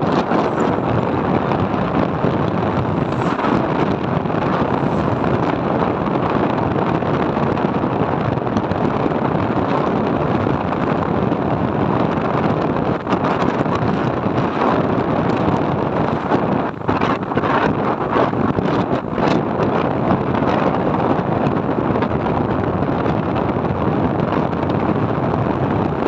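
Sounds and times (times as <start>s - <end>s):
road noise: 0.0s - 22.6s
wind rush on microphone: 0.0s - 26.0s.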